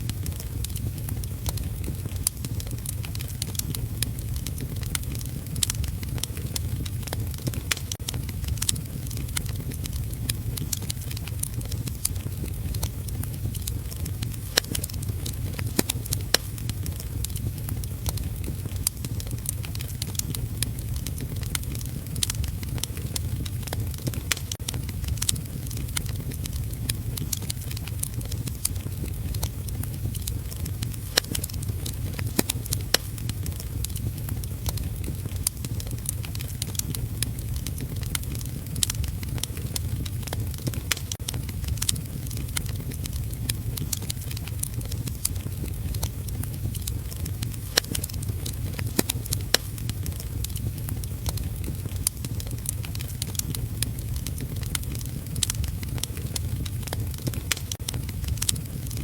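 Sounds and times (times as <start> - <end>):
steady low rumble: 0.0 - 59.0
wood fire crackling and popping: 0.0 - 59.0.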